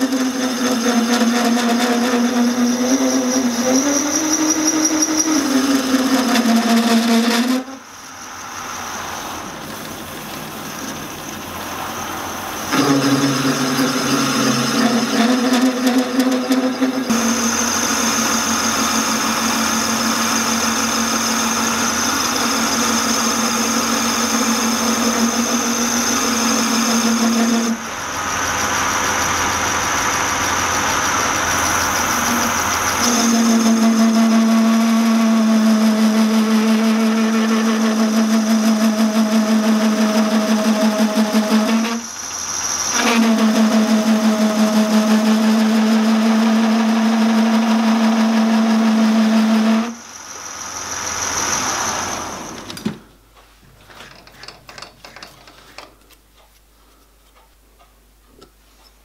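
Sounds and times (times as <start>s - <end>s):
lathe humming with gear whine: 0.0s - 52.8s.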